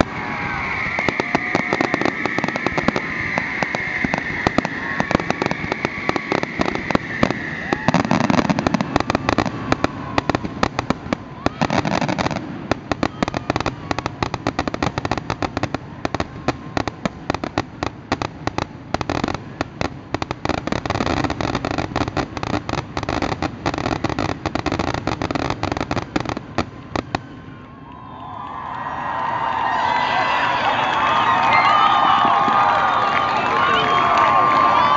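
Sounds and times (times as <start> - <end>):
fireworks bangs: 0.0 - 27.7, 29.5 - 34.9.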